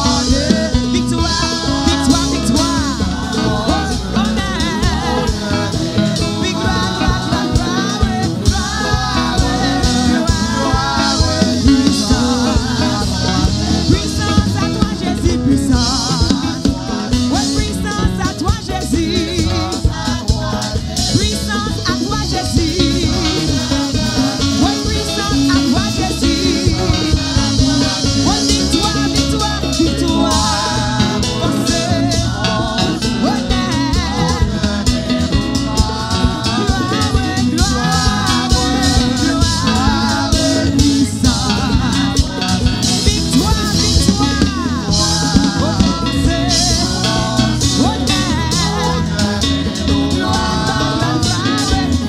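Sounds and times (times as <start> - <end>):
band with a steady beat: 0.0 - 52.0
woman singing into a microphone: 0.0 - 52.0.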